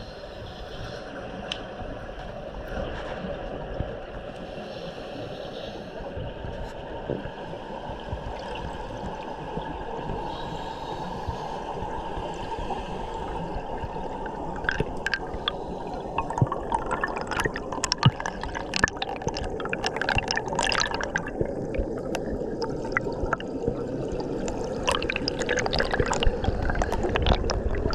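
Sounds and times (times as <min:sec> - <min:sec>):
underwater air bubbles: 0:00.0 - 0:27.9.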